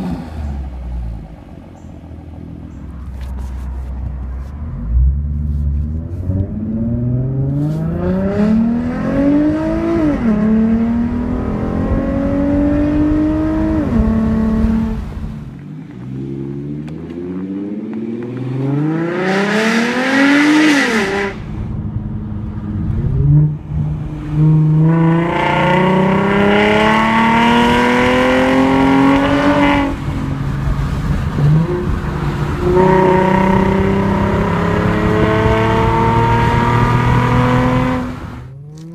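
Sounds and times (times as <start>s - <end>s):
car engine accelerating through gears: 2.6s - 38.9s.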